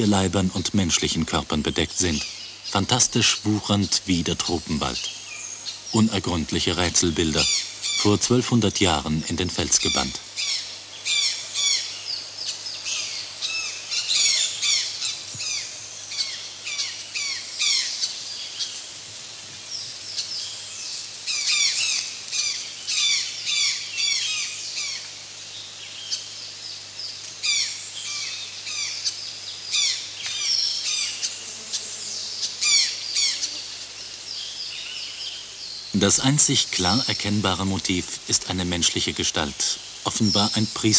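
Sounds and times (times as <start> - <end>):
birds chirping: 0.0 - 18.8, 19.6 - 40.9.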